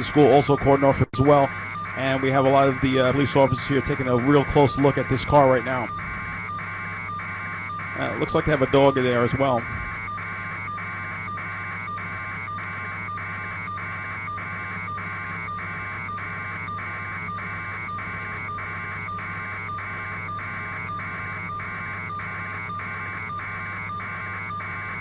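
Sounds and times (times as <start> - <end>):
helicopter cabin noise: 1.2 - 25.0.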